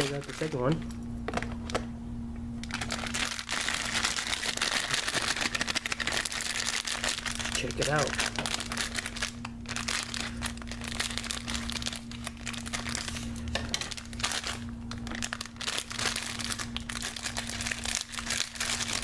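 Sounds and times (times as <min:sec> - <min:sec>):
packaging crinkling and rustling: 0:00.0 - 0:01.9, 0:02.6 - 0:19.0.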